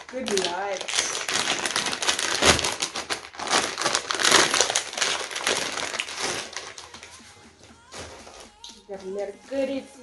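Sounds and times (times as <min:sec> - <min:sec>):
plastic packaging crinkling: 0:00.0 - 0:09.7.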